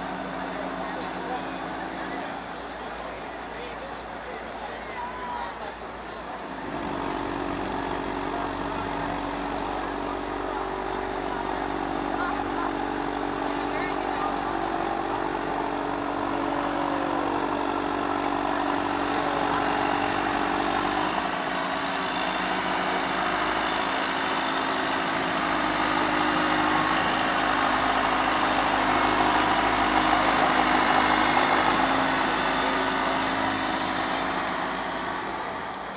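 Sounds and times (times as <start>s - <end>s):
boat engine running: 0.0s - 35.9s.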